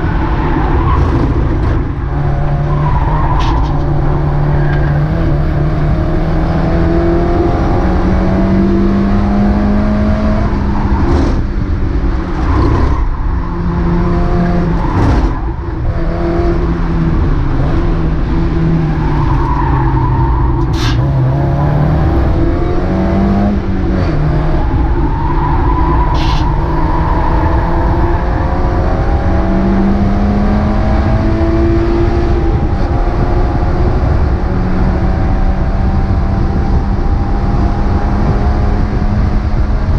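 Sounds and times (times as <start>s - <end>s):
race car engine revving: 0.0s - 39.9s
wind noise: 0.0s - 39.9s.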